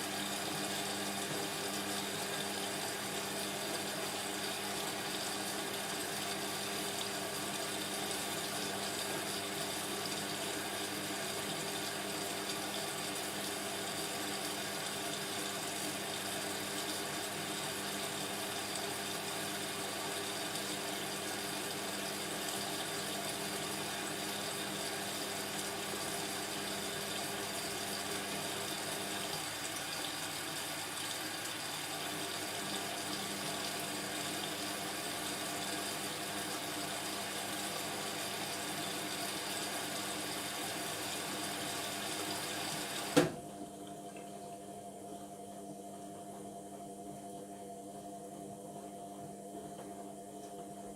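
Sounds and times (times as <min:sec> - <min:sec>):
water moving inside machine: 0:00.0 - 0:44.9
washing machine humming: 0:00.0 - 0:50.9.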